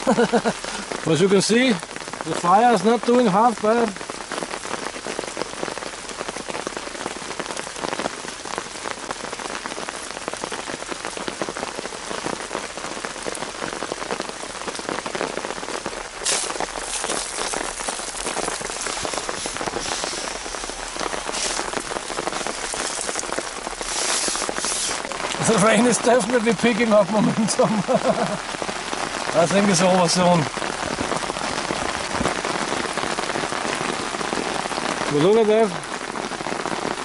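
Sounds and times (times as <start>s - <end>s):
rain on leaves: 0.0s - 37.0s
rain striking a tarp: 0.0s - 37.0s.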